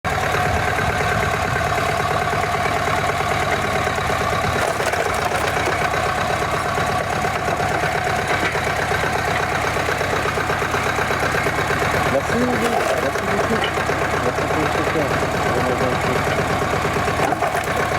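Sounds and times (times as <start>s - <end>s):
log splitter engine idling: 0.0s - 17.9s.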